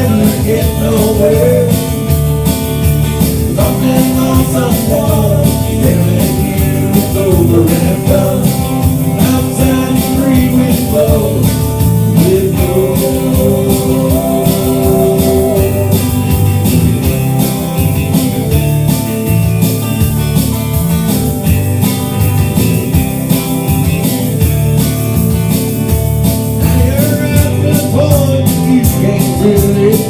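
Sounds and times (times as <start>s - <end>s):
bass: 0.0s - 30.0s
drums with steady beat: 0.0s - 30.0s
guitar: 0.0s - 30.0s.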